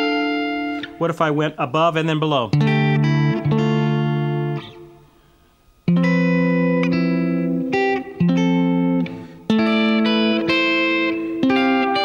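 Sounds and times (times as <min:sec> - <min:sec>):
electric guitar chords ringing: 0:00.0 - 0:12.0.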